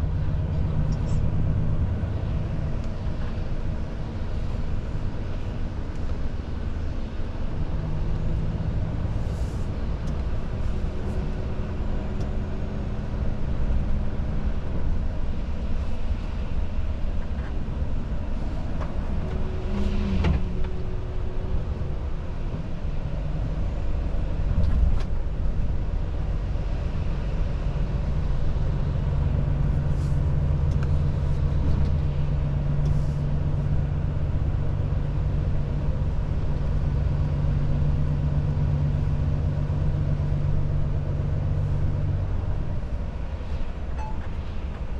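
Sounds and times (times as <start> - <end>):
road and tyre noise: 0.0 - 44.9
truck diesel engine drone: 0.0 - 44.9.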